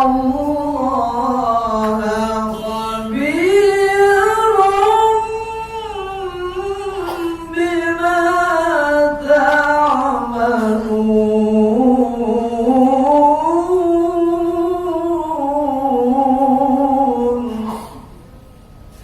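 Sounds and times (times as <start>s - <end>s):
man reciting melodically: 0.0s - 18.1s.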